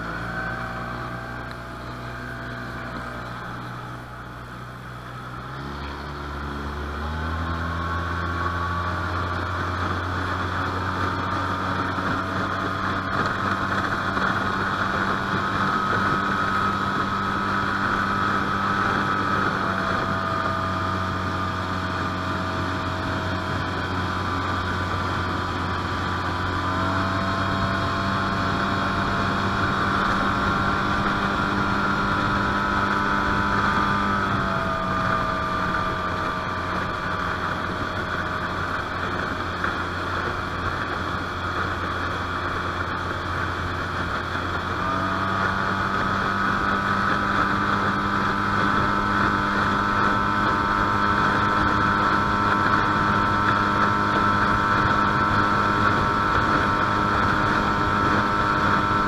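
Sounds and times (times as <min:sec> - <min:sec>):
outboard motor running: 0:00.0 - 0:59.0.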